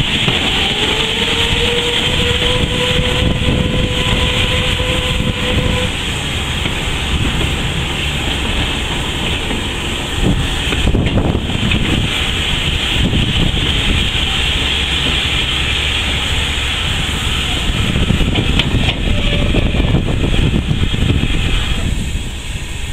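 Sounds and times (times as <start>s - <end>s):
train rumbling: 0.0s - 22.9s.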